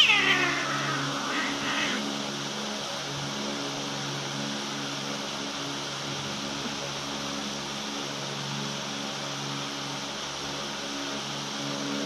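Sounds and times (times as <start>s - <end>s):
electric fan running: 0.0s - 12.0s.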